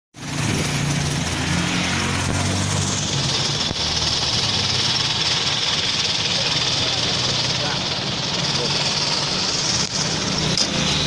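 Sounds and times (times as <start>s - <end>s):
diesel engine idling: 0.2s - 11.0s.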